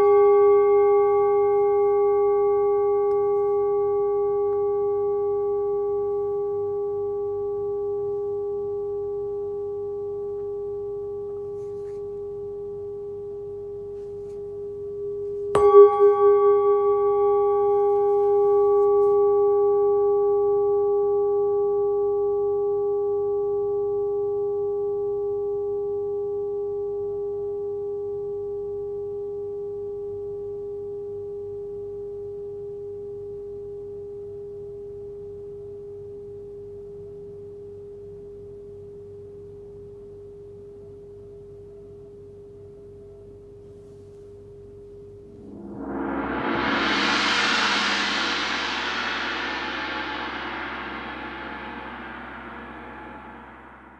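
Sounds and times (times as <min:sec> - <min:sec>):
singing bowl ringing: 0:00.0 - 0:36.3, 0:44.3 - 0:53.9.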